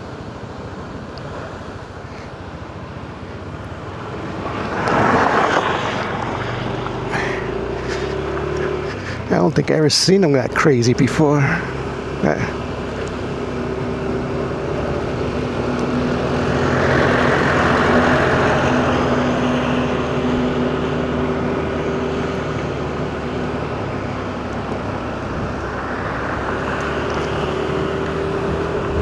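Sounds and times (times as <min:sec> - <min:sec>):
car engine hum: 0:00.0 - 0:29.0
road noise: 0:00.0 - 0:29.0.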